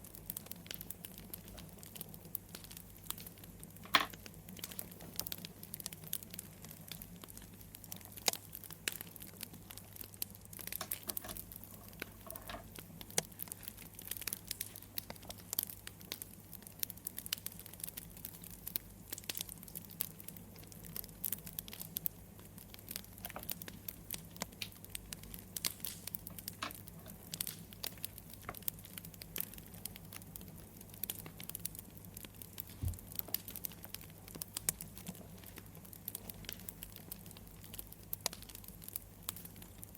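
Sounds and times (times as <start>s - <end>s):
campfire wood crackling: 0.0s - 39.9s.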